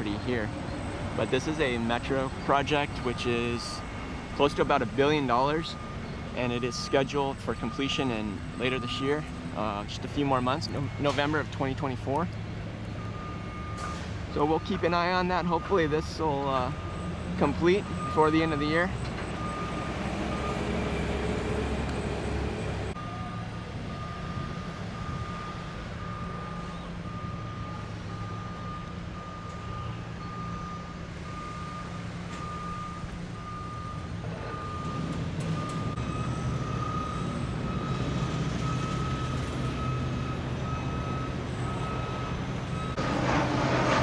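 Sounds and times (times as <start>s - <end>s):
reversing alarm beeping: 0.0s - 12.2s, 12.9s - 43.2s.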